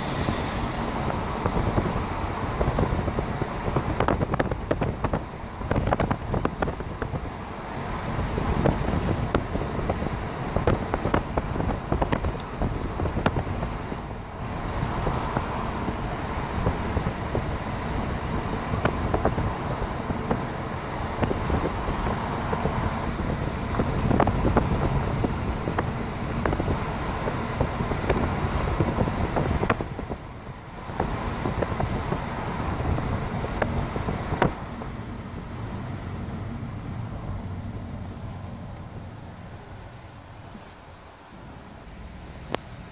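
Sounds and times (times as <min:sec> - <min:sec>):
wind on microphone: 0:00.0 - 0:40.6
road and traffic noise: 0:00.0 - 0:42.9.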